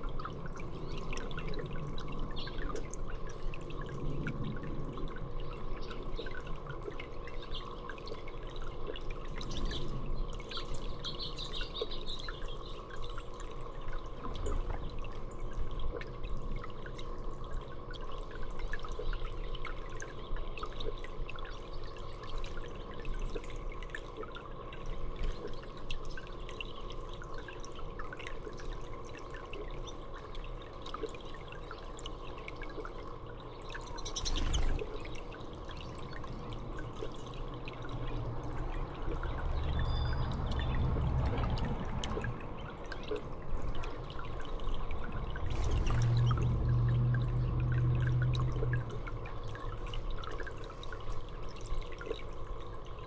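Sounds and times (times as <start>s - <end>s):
water dripping and trickling: 0.0s - 53.0s.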